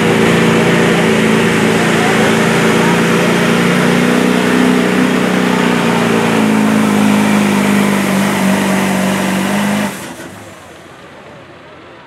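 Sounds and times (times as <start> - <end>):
diesel engine droning at full throttle: 0.0 - 12.0.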